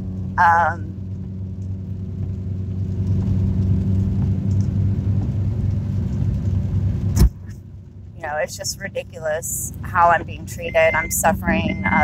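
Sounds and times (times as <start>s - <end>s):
low mechanical hum and rumble: 0.0s - 12.0s.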